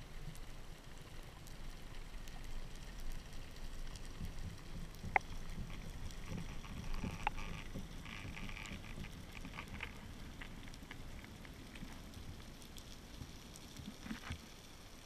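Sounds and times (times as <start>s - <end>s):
faint underwater clicks and crackles: 0.0s - 15.0s
underwater water rumble: 0.0s - 15.0s.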